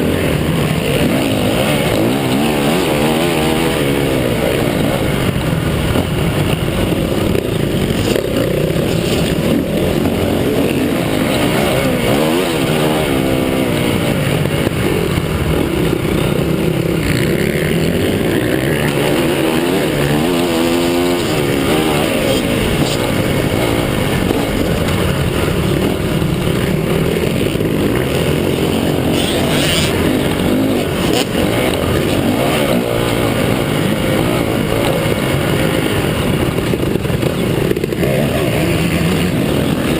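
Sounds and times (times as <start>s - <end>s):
motocross engines revving: 0.0s - 39.9s
motorbikes passing by: 0.0s - 39.9s.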